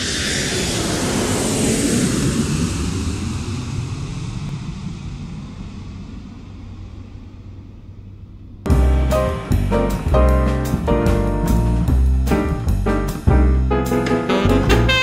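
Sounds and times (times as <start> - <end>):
airplane engine roar: 0.0 - 15.0.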